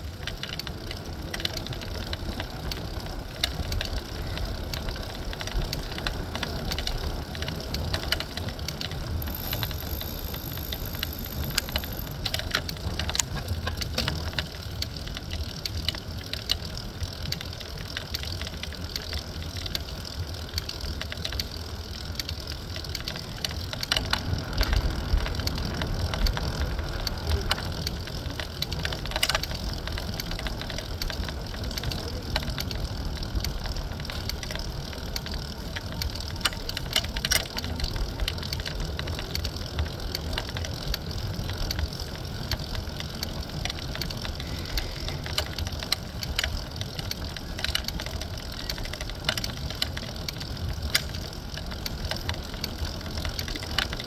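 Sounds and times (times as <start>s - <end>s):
bicycle tyres rumbling: 0.0s - 54.0s
bike rattling and knocking: 0.0s - 54.0s.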